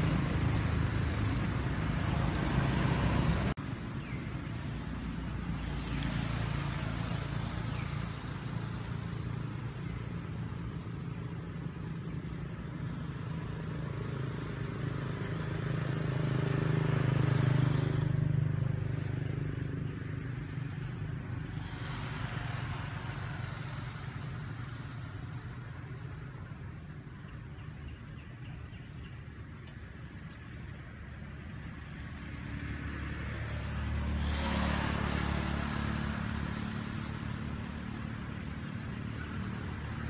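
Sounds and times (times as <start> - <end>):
vehicle engines humming: 0.0 - 40.0.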